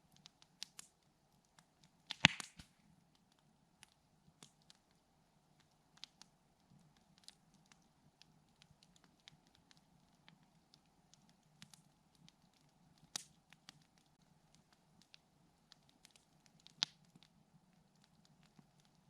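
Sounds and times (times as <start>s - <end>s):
campfire wood crackling: 0.0s - 19.0s.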